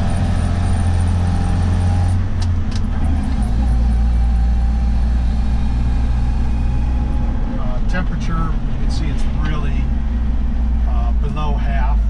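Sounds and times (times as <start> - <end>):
car engine running at speed: 0.0 - 12.0.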